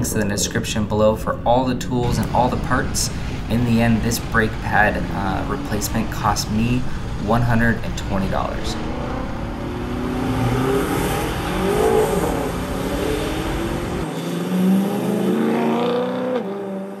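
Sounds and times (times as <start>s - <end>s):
road rumble: 0.0s - 17.0s
car engine accelerating: 2.0s - 17.0s.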